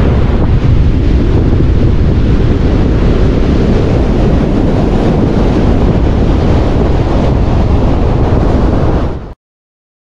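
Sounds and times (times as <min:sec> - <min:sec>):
surf breaking on beach: 0:00.0 - 0:09.4
wind buffeting microphone: 0:00.0 - 0:09.4.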